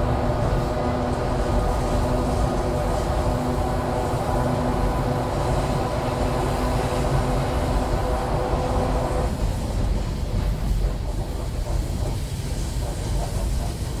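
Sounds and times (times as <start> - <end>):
train humming tones: 0.0 - 14.0
train wheels rumbling on rails: 0.0 - 14.0.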